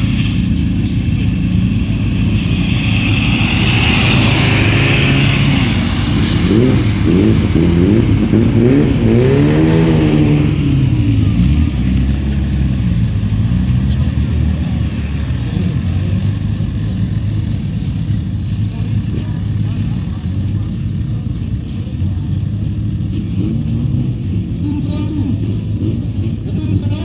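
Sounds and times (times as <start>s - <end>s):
racing car engines accelerating: 0.0s - 27.0s.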